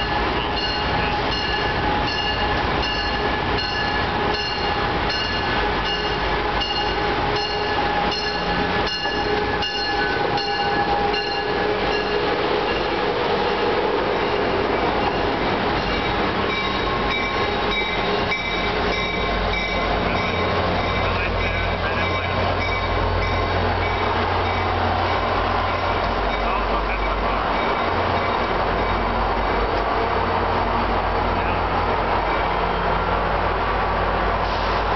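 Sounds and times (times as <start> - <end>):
locomotive bell dinging: 0.0 - 29.9
train wheels rumbling on rails: 0.0 - 34.9.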